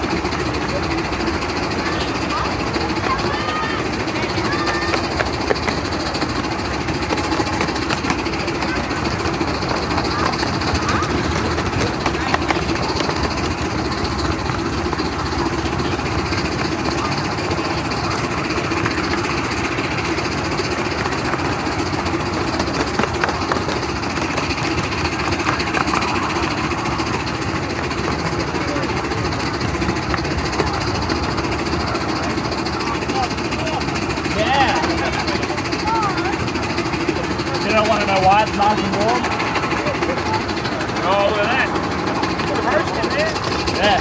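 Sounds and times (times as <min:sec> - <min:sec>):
fast even rattle: 0:00.0 - 0:44.0
miniature steam train running: 0:00.0 - 0:44.0.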